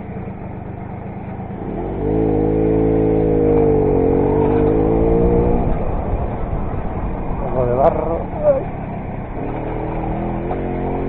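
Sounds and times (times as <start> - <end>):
moped engine revving: 0.0 - 11.0.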